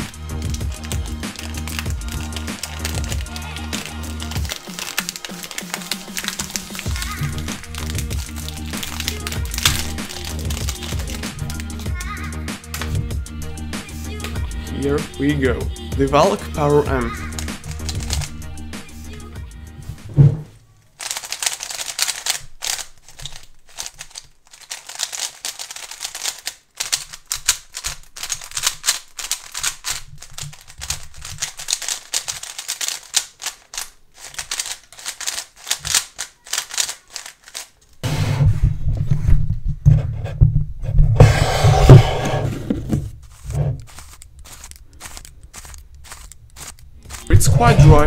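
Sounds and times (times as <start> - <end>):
speed cube clicking and scraping: 0.0 - 14.6, 16.2 - 19.3, 20.9 - 38.1, 41.2 - 48.0.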